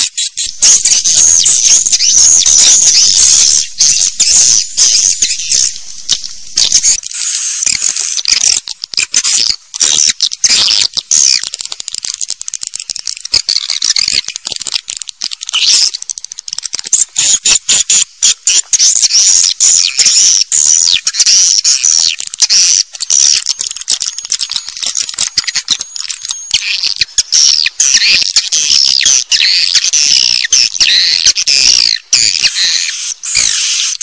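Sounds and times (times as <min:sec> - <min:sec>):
swiftlets twittering: 0:00.0 - 0:34.0.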